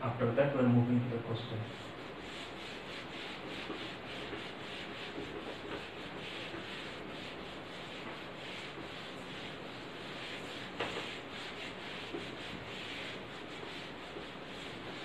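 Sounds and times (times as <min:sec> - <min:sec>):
eraser rubbing on whiteboard: 0:01.6 - 0:15.0.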